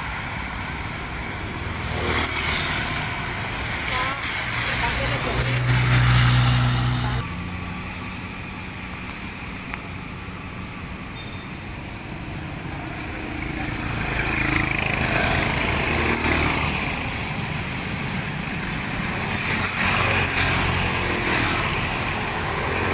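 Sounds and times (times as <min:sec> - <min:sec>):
tyres hissing on wet road: 0:00.0 - 0:22.9
vehicle engines running: 0:00.0 - 0:22.9.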